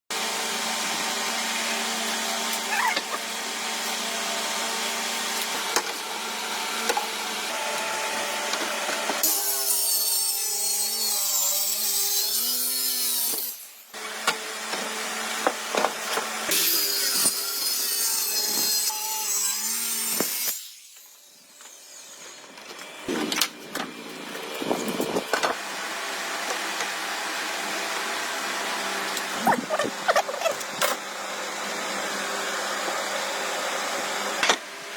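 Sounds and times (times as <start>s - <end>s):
power saw cutting wood: 0.1s - 34.9s.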